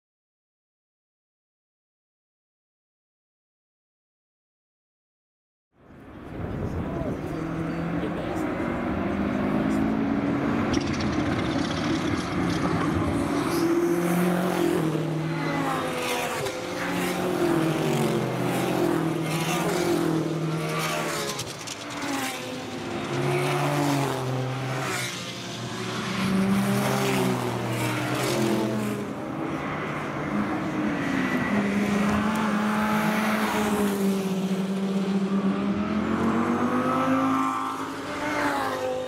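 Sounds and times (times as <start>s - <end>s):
cars passing by: 5.8s - 39.0s
race car engines revving: 5.9s - 39.0s.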